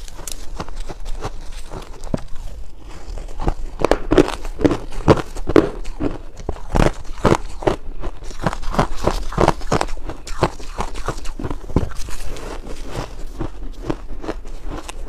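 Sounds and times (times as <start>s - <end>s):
ice being chewed: 0.0s - 15.0s.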